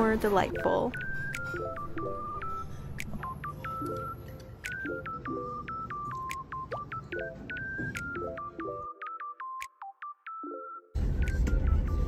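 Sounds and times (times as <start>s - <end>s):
electronic background music: 0.0s - 12.0s.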